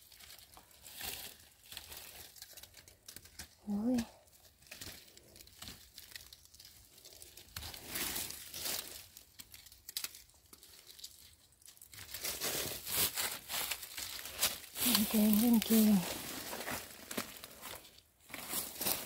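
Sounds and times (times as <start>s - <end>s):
dry leaves rustling and crackling: 0.0s - 19.0s.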